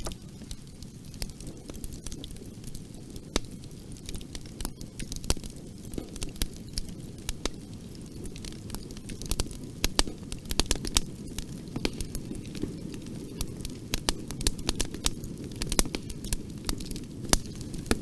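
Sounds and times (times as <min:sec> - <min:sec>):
fire crackling in a fireplace: 0:00.0 - 0:18.0.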